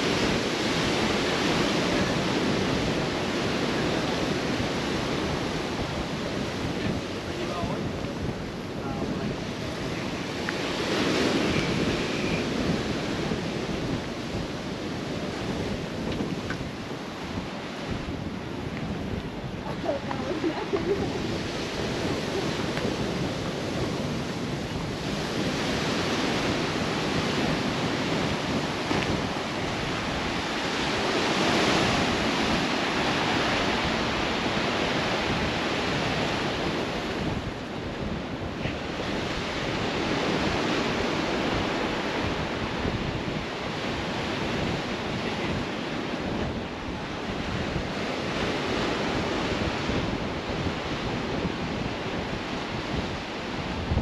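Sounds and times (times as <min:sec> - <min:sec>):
surf breaking on rocky shore: 0:00.0 - 0:54.0
wind buffeting microphone: 0:00.0 - 0:54.0.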